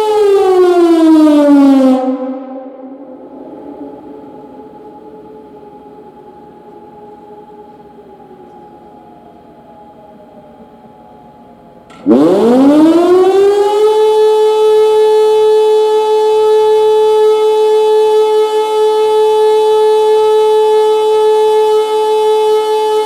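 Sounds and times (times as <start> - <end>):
siren howl: 0.0 - 23.0.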